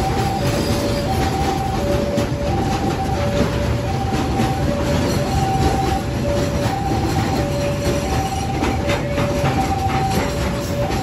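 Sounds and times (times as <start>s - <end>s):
train wheels rumbling on rails: 0.0s - 11.0s
two-tone electronic warning alarm: 0.0s - 11.0s.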